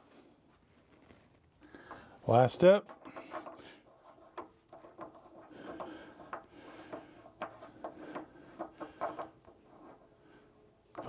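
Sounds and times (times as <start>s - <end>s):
light metal scraping: 0.9s - 11.0s.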